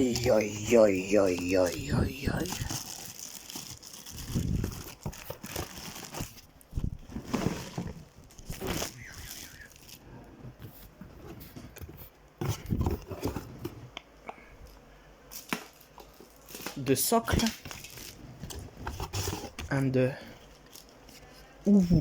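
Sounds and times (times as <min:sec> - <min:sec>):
packaging rustling and crinkling: 0:00.0 - 0:13.8, 0:15.3 - 0:19.8, 0:20.4 - 0:21.5.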